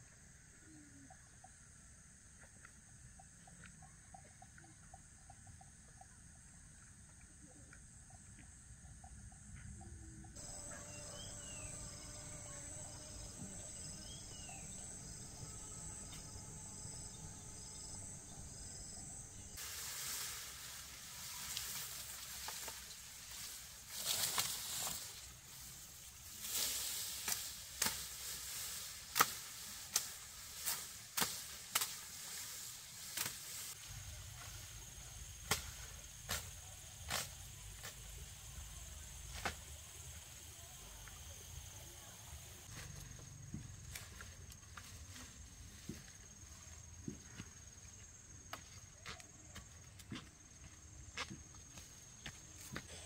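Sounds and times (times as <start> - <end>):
insects chirping: 0.0 - 53.0.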